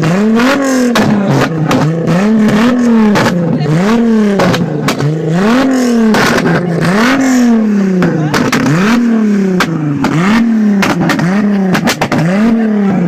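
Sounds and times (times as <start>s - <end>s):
car engine revving: 0.0s - 13.0s
exhaust crackles: 0.0s - 13.0s.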